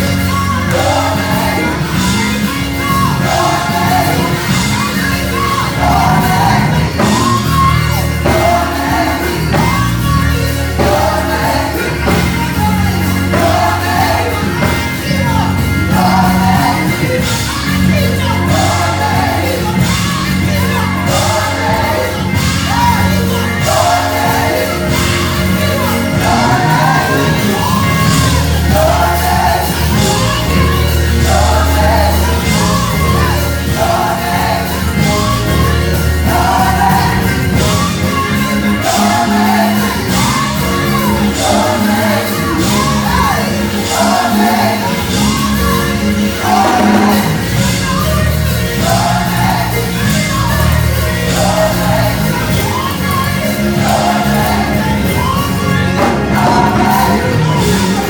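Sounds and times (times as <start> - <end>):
gospel choir singing: 0.0 - 58.0
live band with bass and drums: 0.0 - 58.0.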